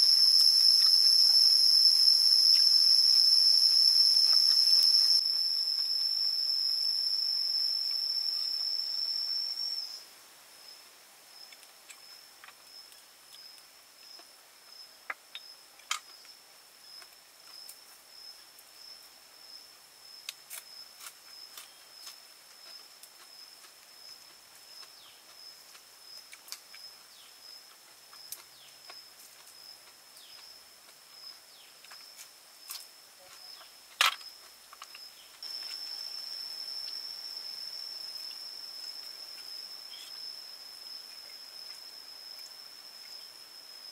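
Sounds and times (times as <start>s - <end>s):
insect trilling: 0.0s - 43.9s.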